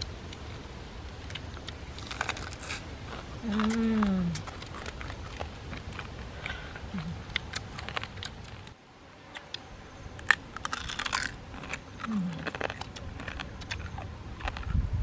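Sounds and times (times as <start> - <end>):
crab shells cracking and crunching: 1.0 - 9.6, 10.2 - 14.7.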